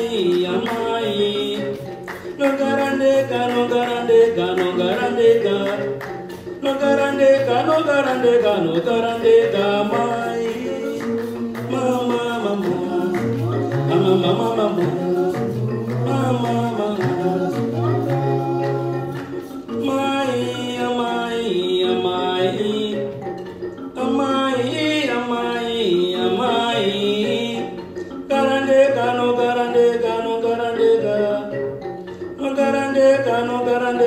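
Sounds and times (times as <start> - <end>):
voices singing: 0.0 - 23.4, 24.0 - 34.0
plucked mbira notes: 0.0 - 34.0.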